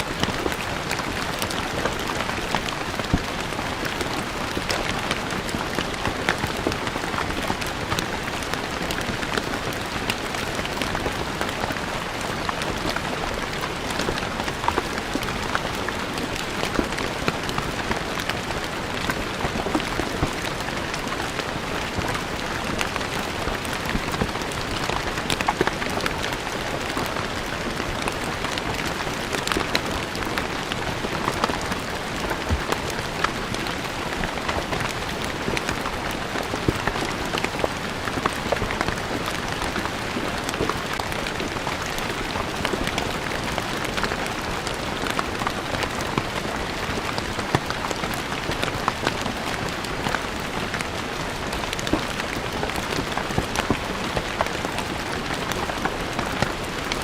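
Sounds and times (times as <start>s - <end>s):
rain on stone floor: 0.0s - 57.0s.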